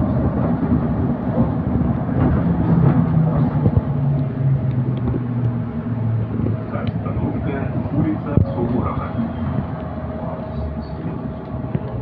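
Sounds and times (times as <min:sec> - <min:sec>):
low hum: 0:00.0 - 0:12.0
trolleybus ride rumble: 0:00.0 - 0:12.0.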